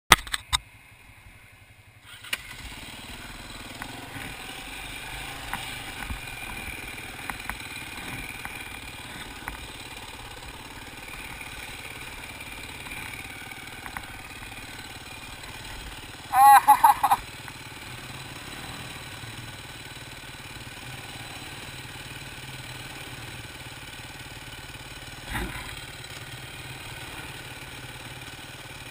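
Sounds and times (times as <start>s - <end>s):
dirt bike engine running: 0.2s - 28.9s.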